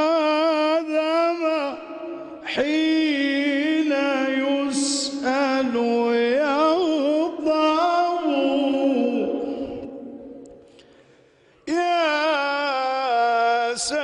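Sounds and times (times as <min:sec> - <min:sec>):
man chanting: 0:00.0 - 0:10.6, 0:11.6 - 0:14.0.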